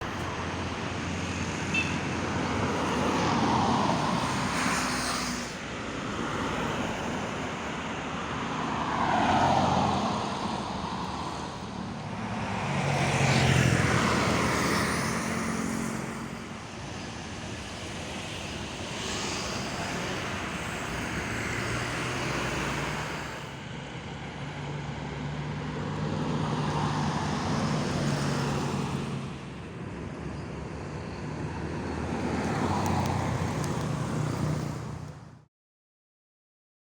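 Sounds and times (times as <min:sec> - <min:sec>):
vehicles driving past: 0:00.0 - 0:35.5.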